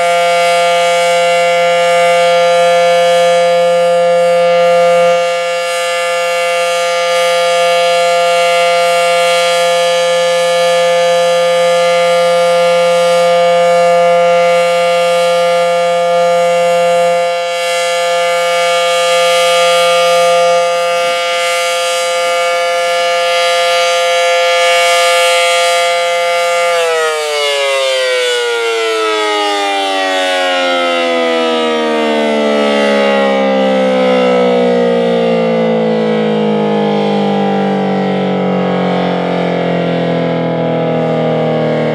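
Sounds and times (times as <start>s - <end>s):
two-tone warning siren: 0.0s - 41.9s.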